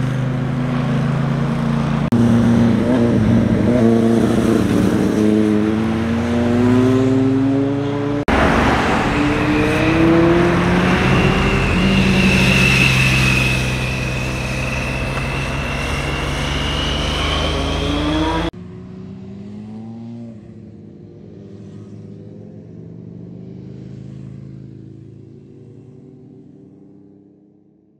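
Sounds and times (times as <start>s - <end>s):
motorcycle engine accelerating: 0.0s - 27.4s.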